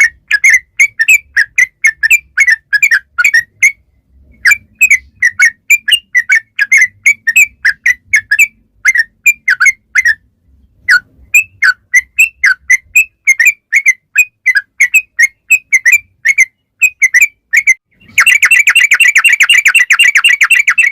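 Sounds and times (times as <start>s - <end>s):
bird chirping and trilling: 0.0s - 20.9s.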